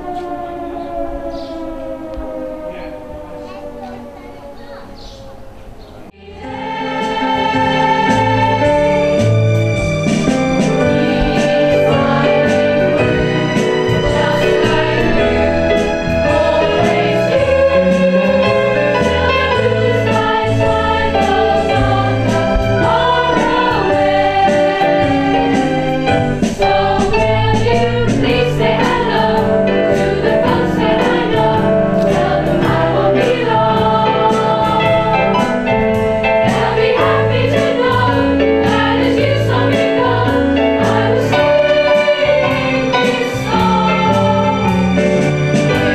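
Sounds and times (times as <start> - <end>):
children's choir singing: 0.0 - 45.9
electronic keyboard: 0.0 - 45.9.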